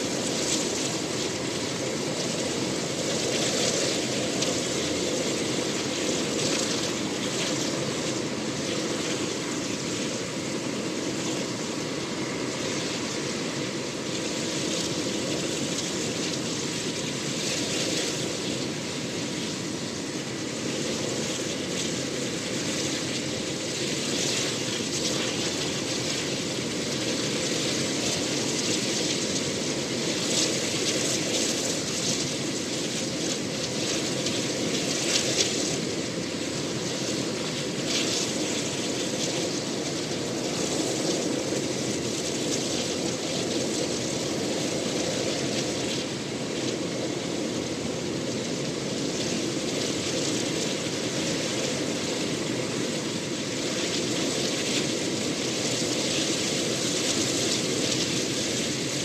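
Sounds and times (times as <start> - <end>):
helicopter engines and rotor: 0.0 - 50.8
thin steady whine: 0.0 - 59.0.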